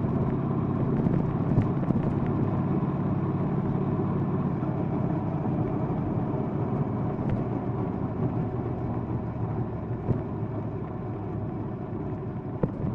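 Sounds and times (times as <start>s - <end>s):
road and wind noise: 0.0s - 12.9s.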